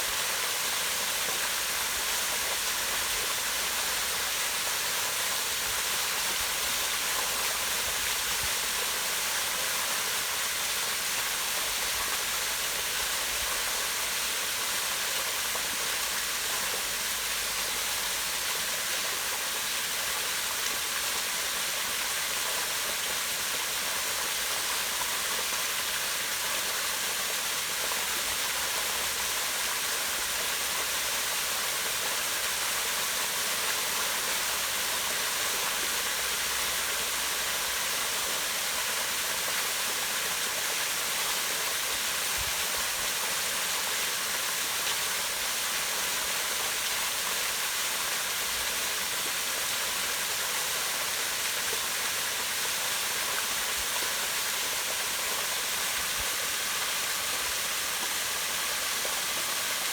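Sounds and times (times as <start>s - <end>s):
waterfall rushing into pond: 0.0s - 59.9s.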